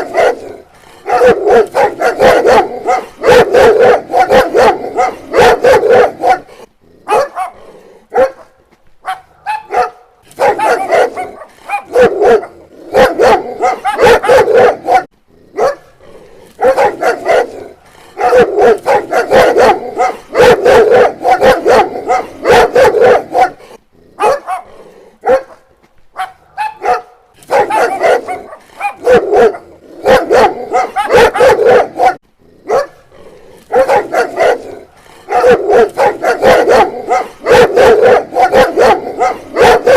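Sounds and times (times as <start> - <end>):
dog barking: 0.0 - 16.0, 16.6 - 33.1, 33.7 - 39.9.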